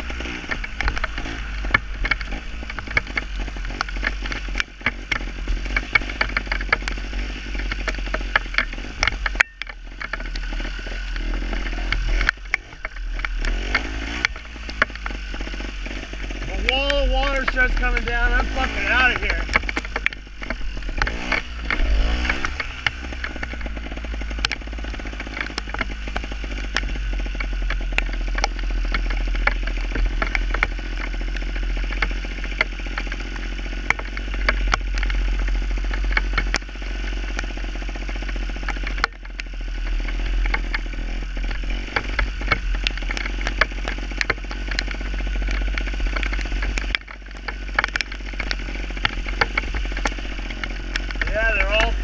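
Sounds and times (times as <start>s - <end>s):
clicks and clatter: 0.0s - 52.0s
motorcycle engine revving: 0.0s - 52.0s.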